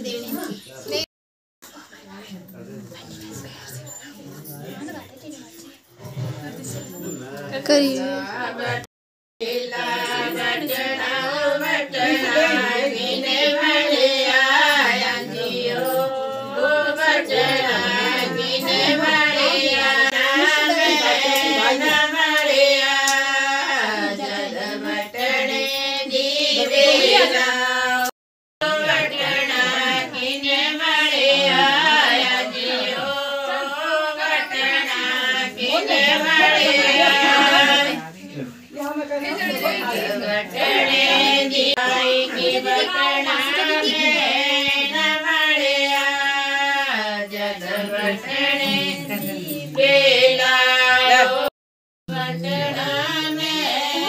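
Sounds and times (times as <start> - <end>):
women singing together: 7.8 - 51.5, 52.1 - 54.0.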